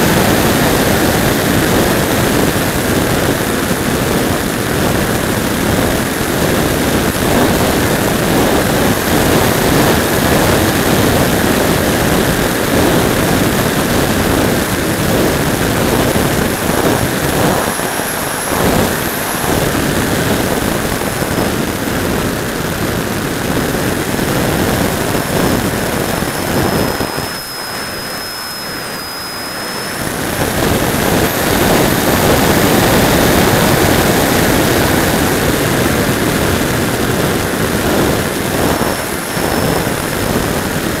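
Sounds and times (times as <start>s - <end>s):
electric motor and propeller whine: 0.0s - 41.0s
wind rush: 0.0s - 41.0s.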